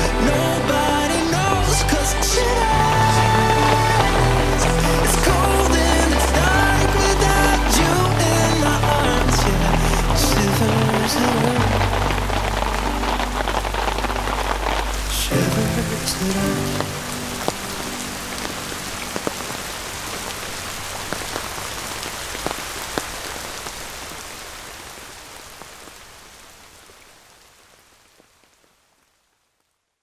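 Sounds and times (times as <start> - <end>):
raindrops ticking: 0.0 - 24.5
steady rain falling: 0.0 - 30.0.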